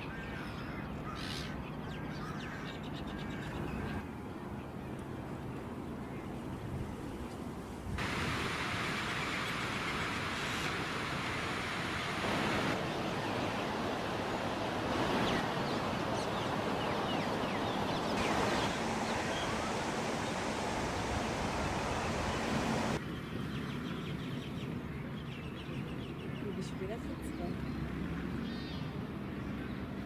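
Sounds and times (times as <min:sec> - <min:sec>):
rushing outdoor background noise: 0:00.0 - 0:30.0.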